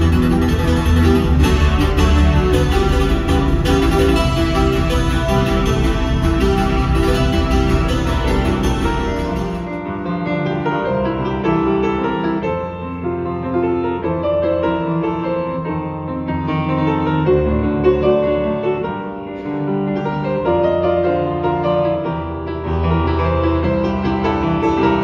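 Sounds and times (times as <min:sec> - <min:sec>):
solo piano: 0:00.0 - 0:25.0.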